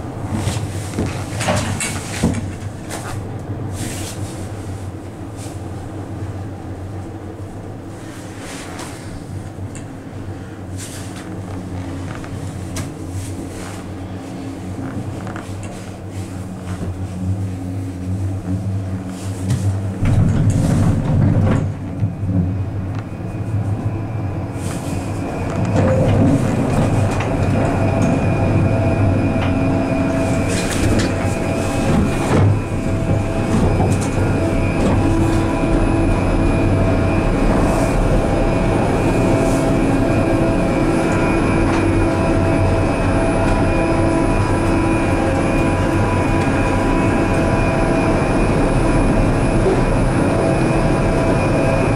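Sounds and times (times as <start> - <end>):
cabin rumble entering station: 0.0 - 51.9
gondola cabin humming on cable: 0.0 - 51.9
whirring station machinery: 0.0 - 51.9.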